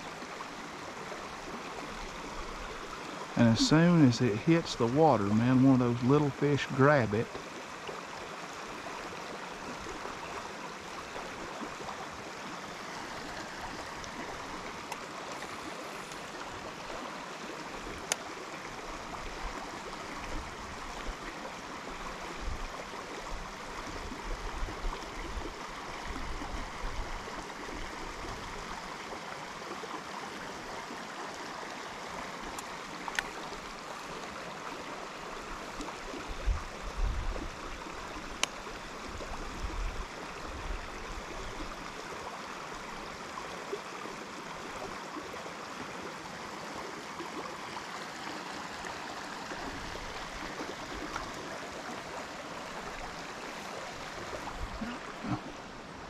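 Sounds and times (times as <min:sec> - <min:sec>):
creek water rushing: 0:00.0 - 0:56.0.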